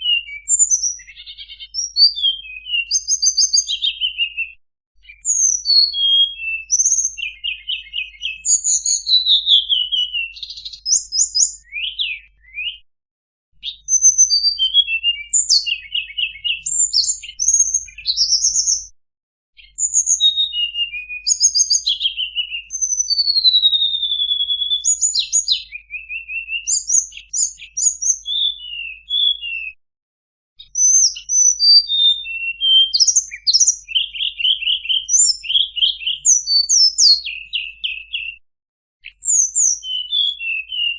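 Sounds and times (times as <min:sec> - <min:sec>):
bird song with whistles and trills: 0:00.0 - 0:12.9, 0:13.5 - 0:19.0, 0:19.6 - 0:29.8, 0:30.6 - 0:38.4, 0:39.0 - 0:40.9.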